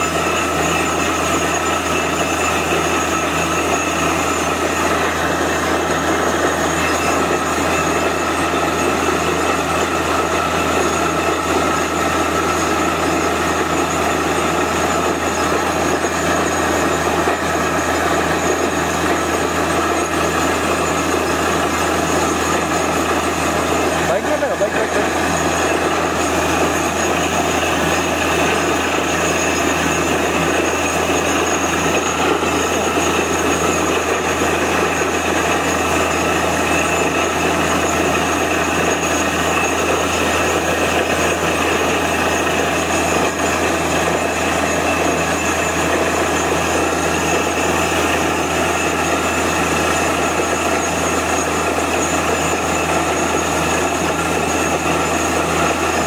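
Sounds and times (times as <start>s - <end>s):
drilling rig engine drone: 0.0s - 56.0s.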